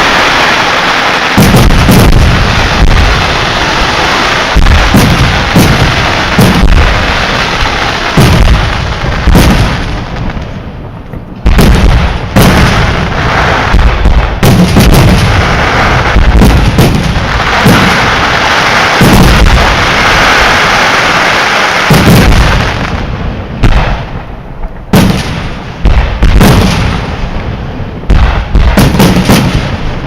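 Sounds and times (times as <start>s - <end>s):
firework shells booming: 1.3s - 30.0s.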